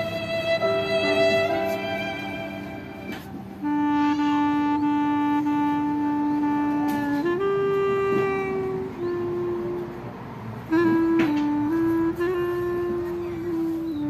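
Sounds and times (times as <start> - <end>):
wind instrument long held notes: 0.0 - 14.0.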